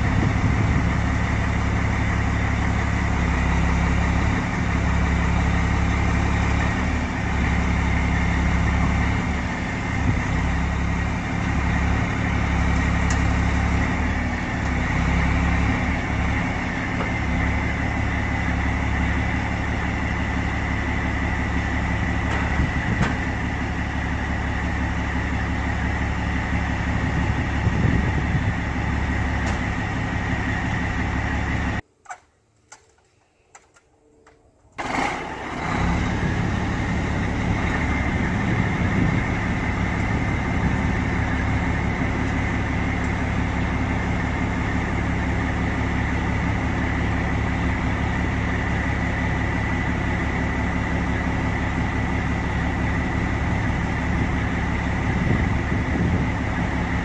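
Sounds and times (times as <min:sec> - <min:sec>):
diesel engine idling: 0:00.0 - 0:31.8, 0:34.7 - 0:57.0.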